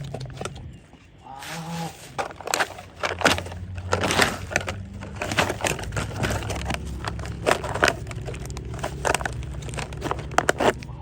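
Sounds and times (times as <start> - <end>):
dry leaves and twigs crackling: 0.0 - 11.0.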